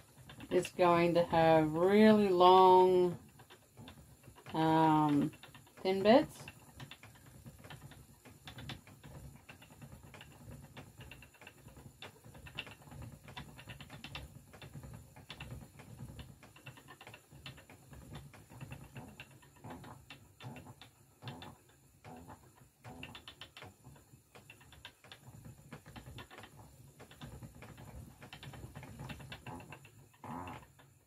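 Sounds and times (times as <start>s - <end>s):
spinning wheel clicking and tapping: 0.0s - 31.0s.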